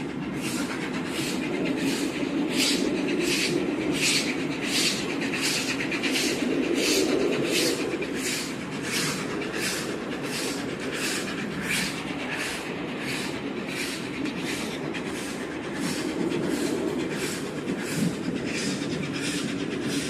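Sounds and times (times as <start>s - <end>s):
rhythmic steam hissing: 0.0s - 20.0s
train rumble: 0.0s - 20.0s.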